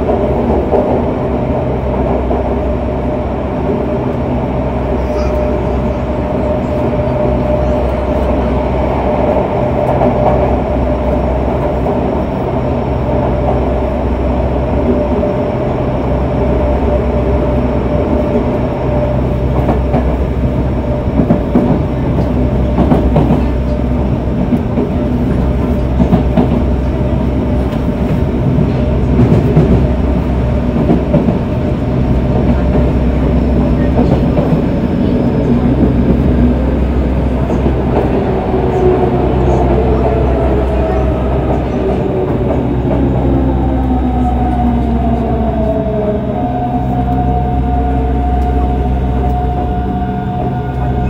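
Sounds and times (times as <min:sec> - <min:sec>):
train clacks and rattles: 0:00.0 - 0:51.0
train motor hum: 0:00.0 - 0:51.0
train wheels rumbling on rail: 0:00.0 - 0:51.0.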